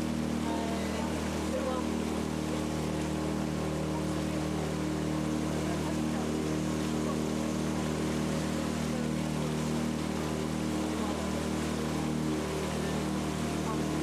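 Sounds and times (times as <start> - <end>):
boat engine running steadily: 0.0 - 14.0.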